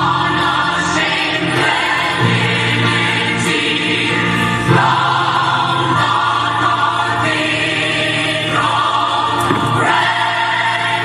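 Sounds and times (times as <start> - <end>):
chorus singing: 0.0 - 11.0.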